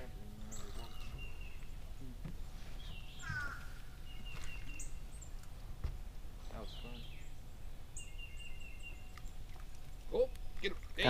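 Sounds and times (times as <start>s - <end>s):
low background rumble: 0.0s - 11.0s
wild birds calling: 0.1s - 11.0s.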